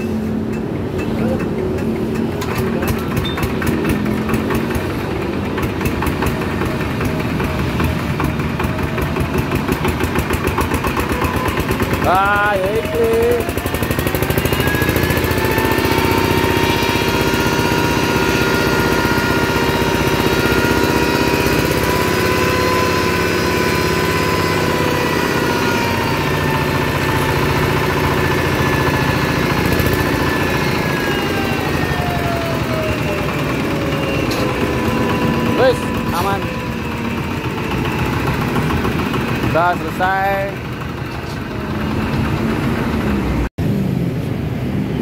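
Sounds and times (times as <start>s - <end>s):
diesel engine running: 0.0s - 45.0s
flour mill whining: 1.4s - 43.4s.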